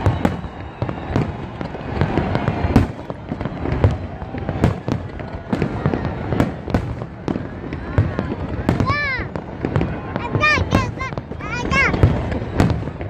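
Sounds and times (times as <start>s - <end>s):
constant din: 0.0s - 13.0s
fireworks bangs: 0.0s - 13.0s.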